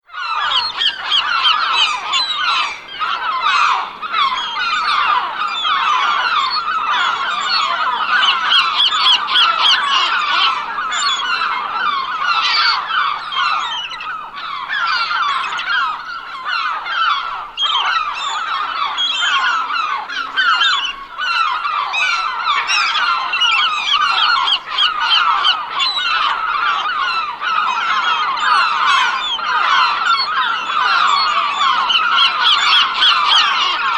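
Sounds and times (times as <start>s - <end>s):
flock of gulls calling: 0.0s - 33.9s.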